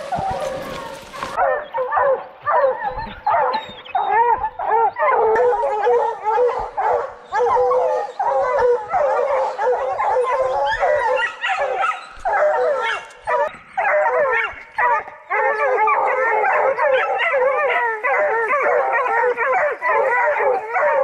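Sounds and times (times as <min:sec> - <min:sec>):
hounds baying and howling: 0:00.0 - 0:21.0.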